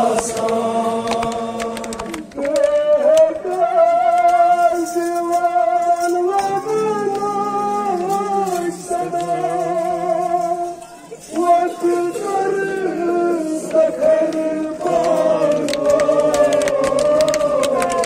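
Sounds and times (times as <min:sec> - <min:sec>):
music with singing: 0:00.0 - 0:18.0.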